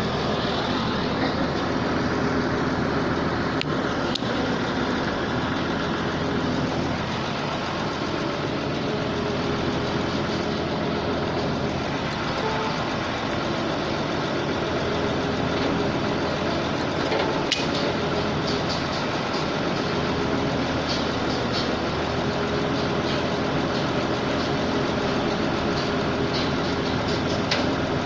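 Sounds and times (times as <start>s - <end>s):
air compressor diesel engine running: 0.0s - 28.0s.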